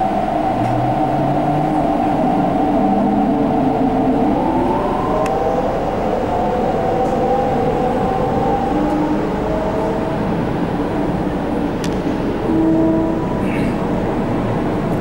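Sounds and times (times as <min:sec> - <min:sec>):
electric train rumbling: 0:00.0 - 0:15.0
train whine shifting in pitch: 0:00.0 - 0:15.0.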